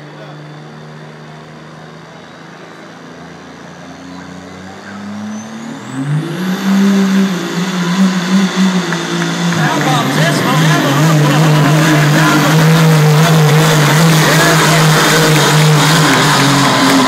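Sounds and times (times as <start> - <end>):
diesel truck engine revving: 0.0 - 17.0.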